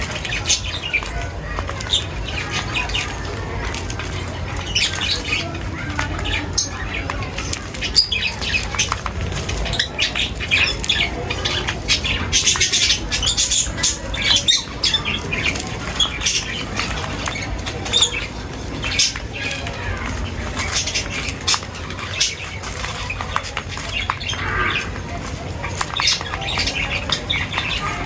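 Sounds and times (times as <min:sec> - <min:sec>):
birds chirping and squawking: 0:00.0 - 0:28.0.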